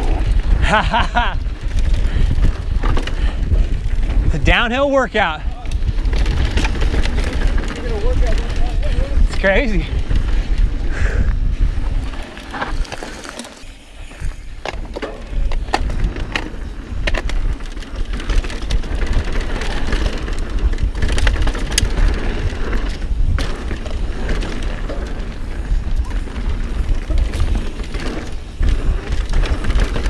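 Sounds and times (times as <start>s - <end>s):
bike clicking and rattling: 0.0s - 30.0s
bike tyres rolling over dirt: 0.0s - 30.0s
wind rumble on microphone: 0.0s - 30.0s.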